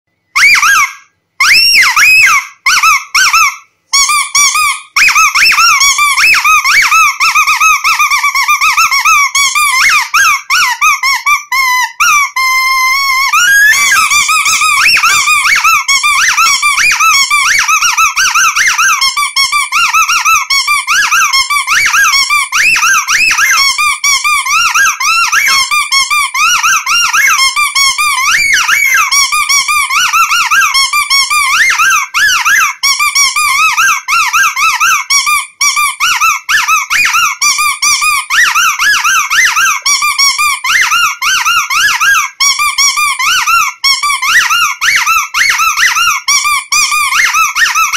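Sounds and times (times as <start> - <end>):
rubber squeaky toy squeaking: 0.4 - 47.9.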